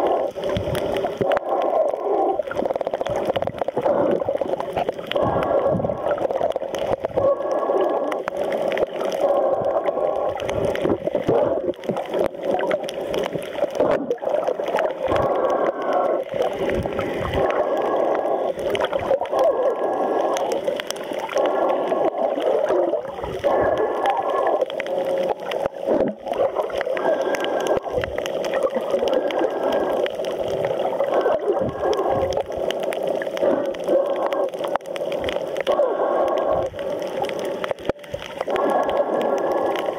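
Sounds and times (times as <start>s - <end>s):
underwater sloshing and gurgling: 0.0s - 39.9s.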